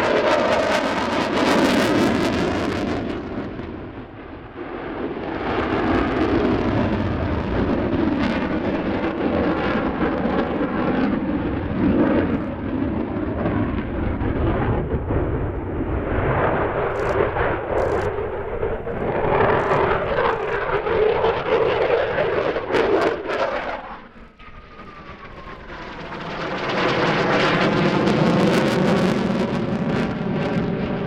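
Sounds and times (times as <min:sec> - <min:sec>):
loud jet noise: 0:00.0 - 0:31.0.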